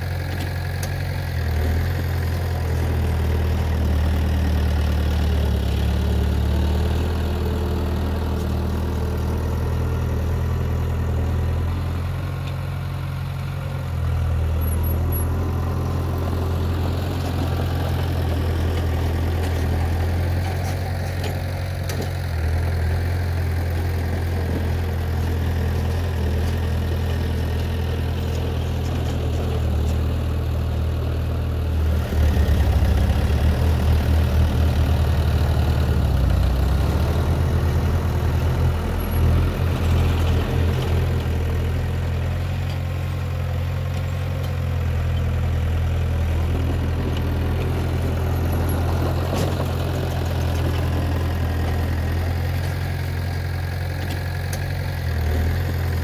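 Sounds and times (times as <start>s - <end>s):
diesel machinery engines droning: 0.0s - 56.0s.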